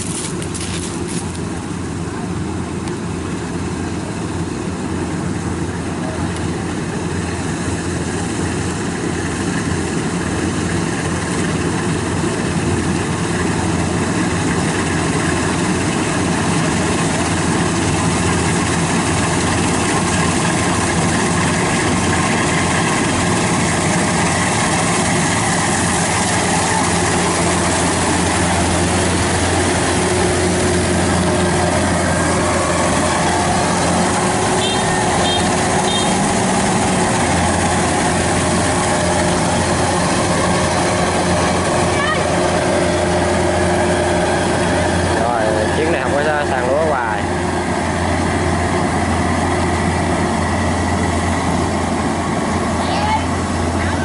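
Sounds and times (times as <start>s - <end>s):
combine harvester engine running: 0.0s - 54.0s.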